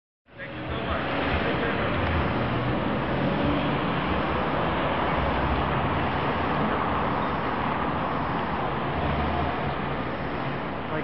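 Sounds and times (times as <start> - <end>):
traffic and city noise: 0.3 - 11.0.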